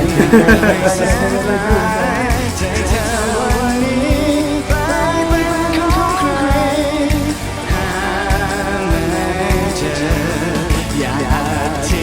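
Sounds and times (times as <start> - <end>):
person singing: 0.0 - 12.0
steady drum beat: 0.0 - 12.0
upbeat pop music: 0.0 - 12.0.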